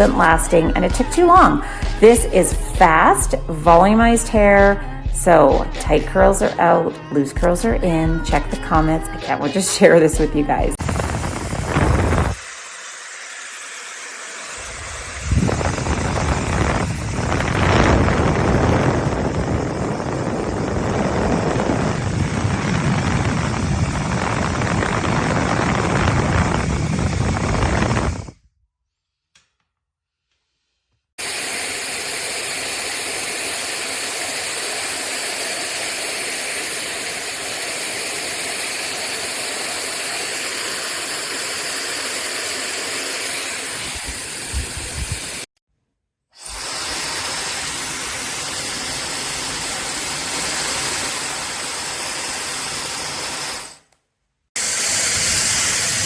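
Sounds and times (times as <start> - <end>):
hair dryer blowing air: 0.0 - 28.4, 31.2 - 45.5, 46.4 - 53.9, 54.6 - 56.0.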